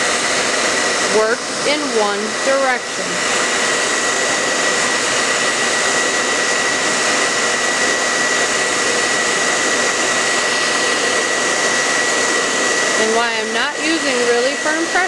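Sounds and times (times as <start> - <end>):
hair dryer blowing with whine: 0.0 - 15.0.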